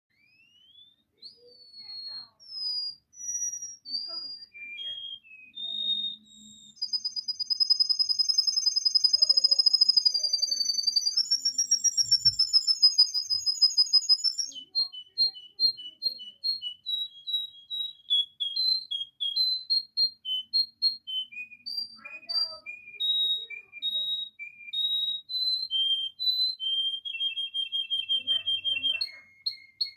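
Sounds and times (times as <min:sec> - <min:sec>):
canary trilling: 0:00.1 - 0:29.9
canary whistled notes: 0:00.1 - 0:29.9.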